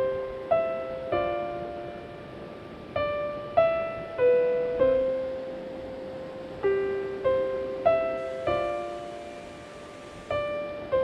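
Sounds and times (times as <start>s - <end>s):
slow gentle piano notes: 0.0s - 11.0s.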